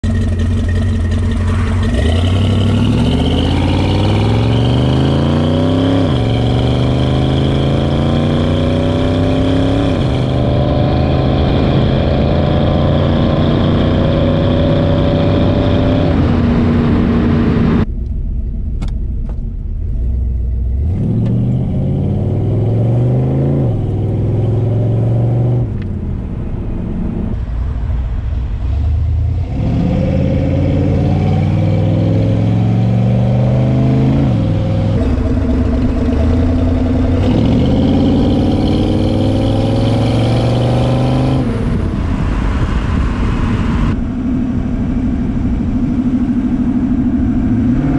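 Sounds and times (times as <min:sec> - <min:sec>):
car engine accelerating through gears: 0:00.0 - 0:17.9, 0:18.8 - 0:27.8, 0:28.6 - 0:47.9.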